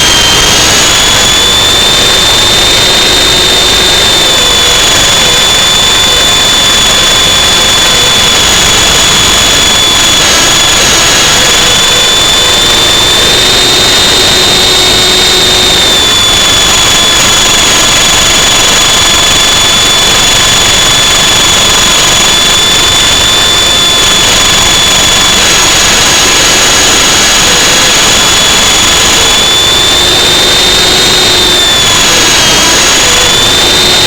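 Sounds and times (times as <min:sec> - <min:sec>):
drone propellers whining: 0:00.0 - 0:34.0
rushing noise: 0:00.0 - 0:34.0.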